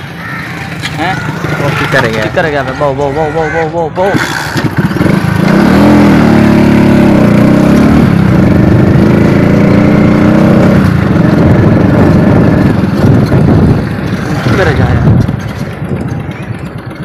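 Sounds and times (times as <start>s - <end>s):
small motorcycle engine running: 0.0s - 3.5s, 4.1s - 17.0s.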